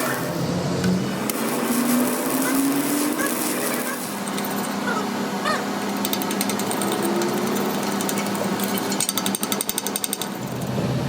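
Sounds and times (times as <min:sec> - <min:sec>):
power tool rattling: 0:01.0 - 0:05.0, 0:05.8 - 0:10.7.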